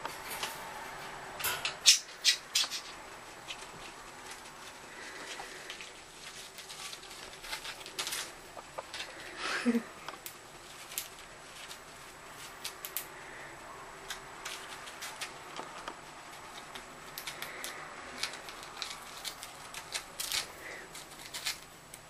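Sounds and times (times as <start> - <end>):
birds nibbling with beaks: 1.8 - 22.0.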